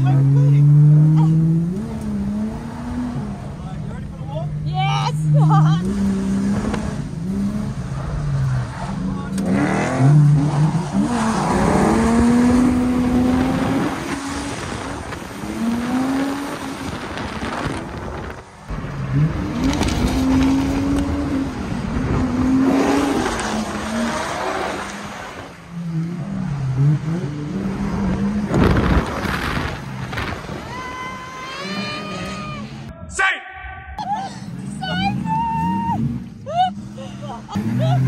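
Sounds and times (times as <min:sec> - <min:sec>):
car engine revving: 0:00.0 - 0:30.8.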